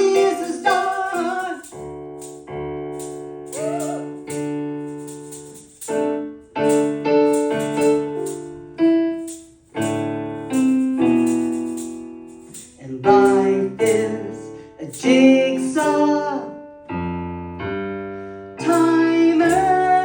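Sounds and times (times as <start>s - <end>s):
piano chords ringing: 0.0s - 20.0s.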